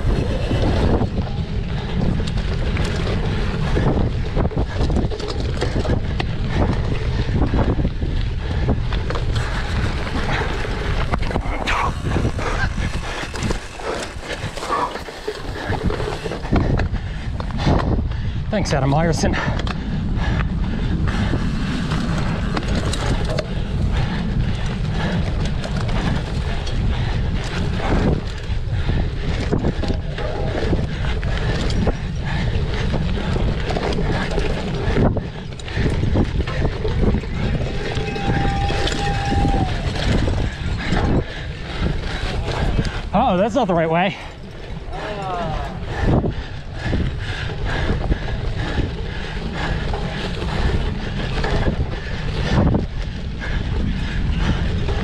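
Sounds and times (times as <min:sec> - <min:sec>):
bike knocks and rattles: 0:00.0 - 0:55.0
low rumble: 0:00.0 - 0:55.0
wind buffeting microphone: 0:00.0 - 0:55.0.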